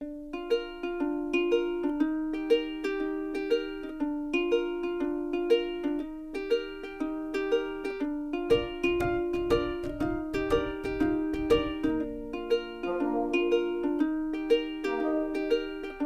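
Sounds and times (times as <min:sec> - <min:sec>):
plucked ukulele tune: 0:00.0 - 0:16.0.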